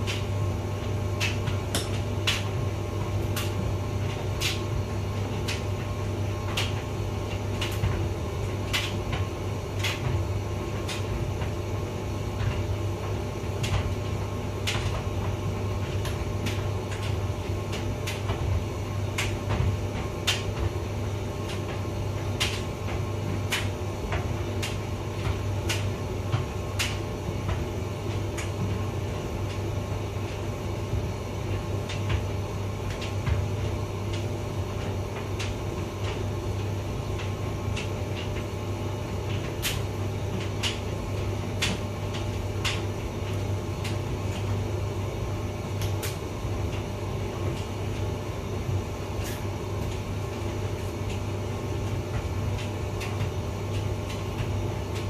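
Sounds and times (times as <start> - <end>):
clicks and taps in dryer: 0.0 - 55.0
tumble dryer running: 0.0 - 55.0.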